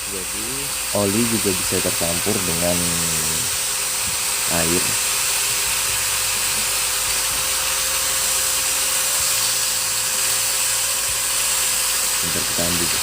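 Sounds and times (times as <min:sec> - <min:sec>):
machine hissing and humming: 0:00.0 - 0:13.0.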